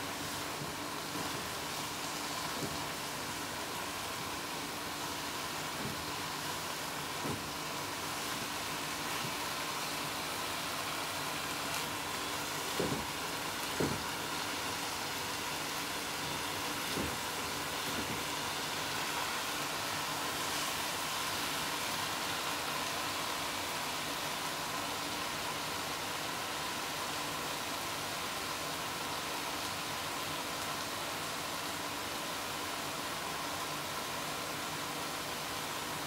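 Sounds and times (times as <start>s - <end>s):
vegetables sizzling in a pan: 0.0s - 36.0s.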